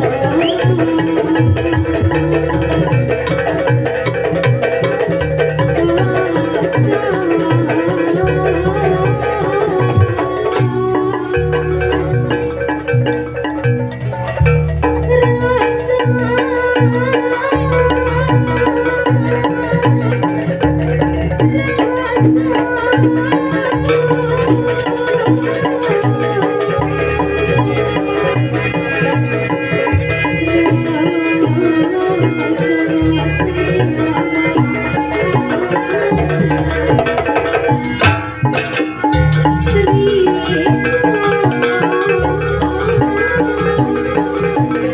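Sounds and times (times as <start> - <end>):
hand drums beating: 0.0 - 44.9
violin: 0.0 - 44.9
wooden xylophones: 0.0 - 44.9.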